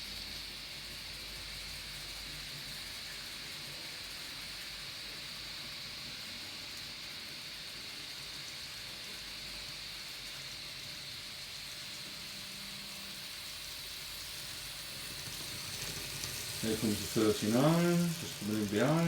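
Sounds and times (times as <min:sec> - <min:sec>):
model trains running hiss: 0:00.0 - 0:19.0.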